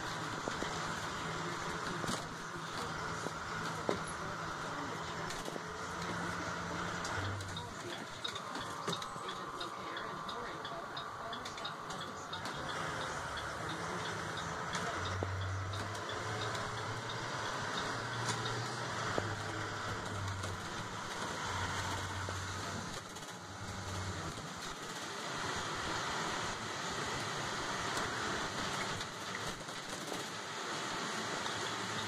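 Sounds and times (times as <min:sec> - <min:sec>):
tyre noise on wet road: 0:00.0 - 0:09.6, 0:11.8 - 0:32.0
light rapid ticking: 0:00.0 - 0:30.5
bus engine humming: 0:00.0 - 0:32.0.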